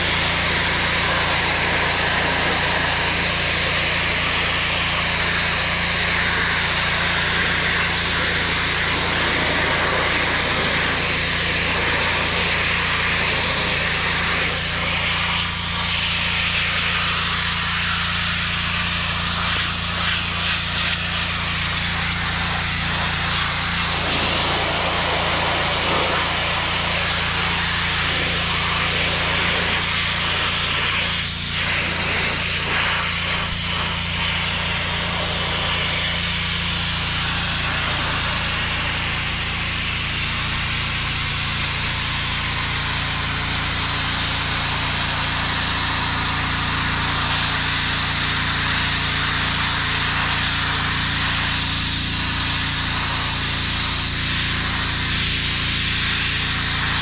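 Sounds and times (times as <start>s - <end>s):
pressure washer engine humming: 0.0s - 57.0s
water jet hissing on concrete: 0.0s - 57.0s.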